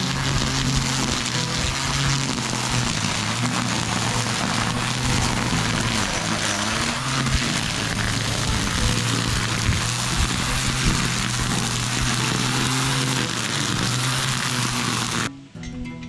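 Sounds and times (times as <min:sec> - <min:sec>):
string trimmer cutting grass: 0:00.0 - 0:15.3.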